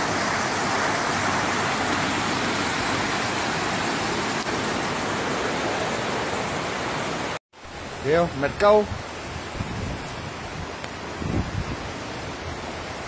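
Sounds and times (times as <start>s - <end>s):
floodwater rushing and churning: 0.0s - 13.0s.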